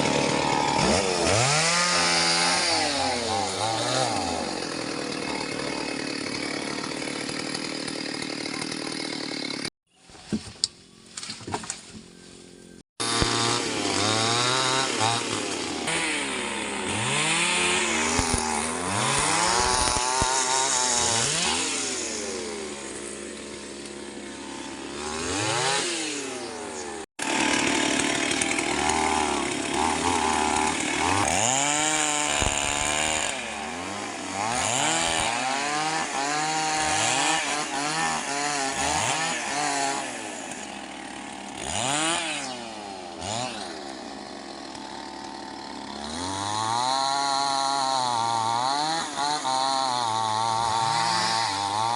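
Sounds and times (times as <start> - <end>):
chainsaw cutting wood: 0.0 - 9.7, 11.2 - 51.9.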